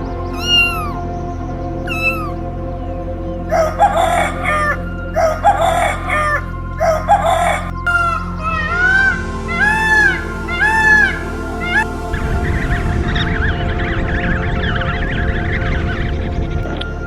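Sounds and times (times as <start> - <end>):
background music: 0.0 - 17.0
bird calling: 1.8 - 16.9.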